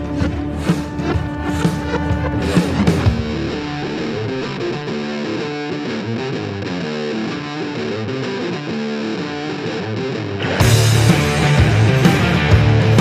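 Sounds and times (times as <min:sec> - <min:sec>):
distorted electric guitar rock music: 0:00.0 - 0:13.0.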